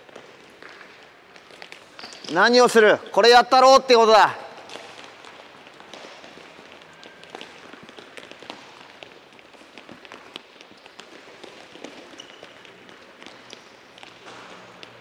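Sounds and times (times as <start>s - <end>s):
feet tapping soccer balls: 0.0s - 15.0s.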